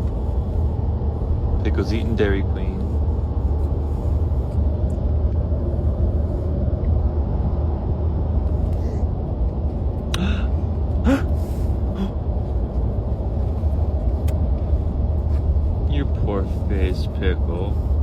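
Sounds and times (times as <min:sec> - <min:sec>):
road noise inside moving car: 0:00.0 - 0:18.0.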